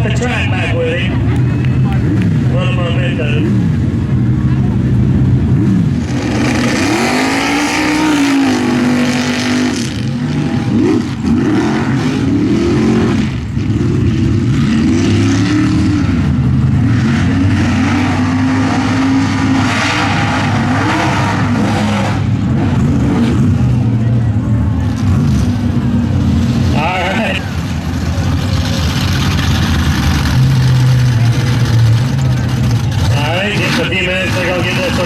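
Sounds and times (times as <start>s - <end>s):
truck engine revving hard: 0.0s - 35.0s.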